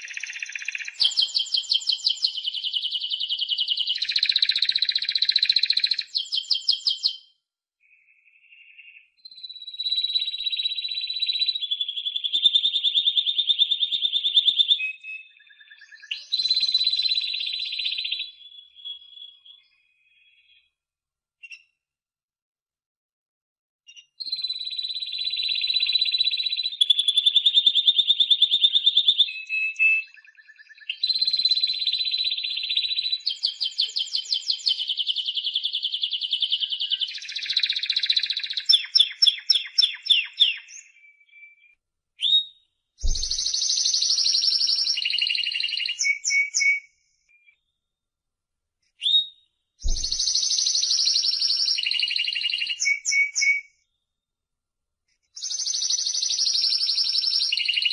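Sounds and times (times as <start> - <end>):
canary singing trills: 0.0 - 20.6, 23.9 - 47.6, 49.0 - 53.7, 55.4 - 57.9.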